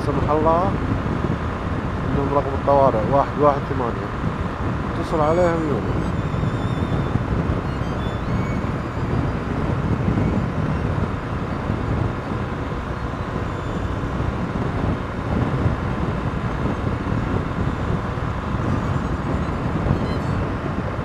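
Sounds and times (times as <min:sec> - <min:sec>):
road noise: 0:00.0 - 0:21.0
wind noise: 0:00.0 - 0:21.0
motorcycle engine cruising: 0:00.4 - 0:21.0.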